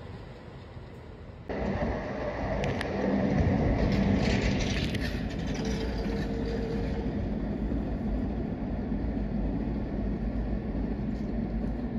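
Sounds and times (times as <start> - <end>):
electric train wheels rumbling: 0.0 - 11.9.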